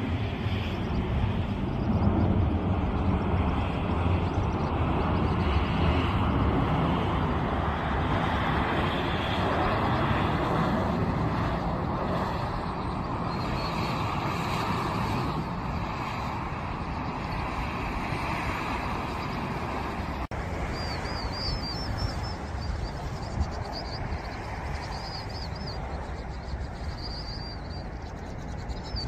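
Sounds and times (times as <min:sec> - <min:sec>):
jet engines drone: 0:00.0 - 0:29.0.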